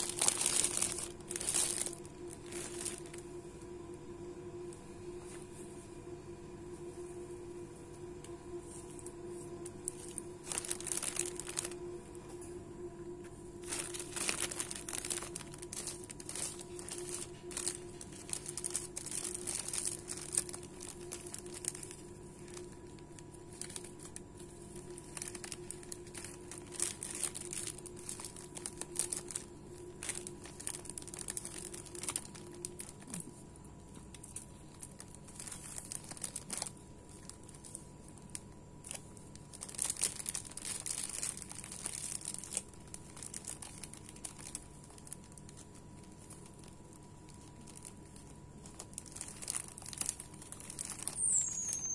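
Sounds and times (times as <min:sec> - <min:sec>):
plastic bags crinkling: 0:00.0 - 0:03.3, 0:08.8 - 0:12.2, 0:13.6 - 0:51.9.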